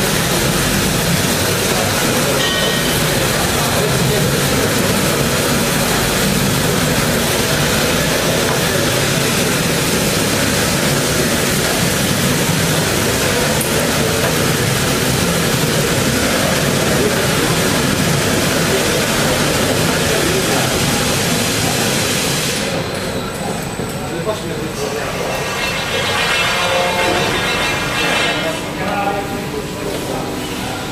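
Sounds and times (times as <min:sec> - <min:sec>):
stretch-wrapping turntable running: 0:00.0 - 0:21.8, 0:22.5 - 0:30.2.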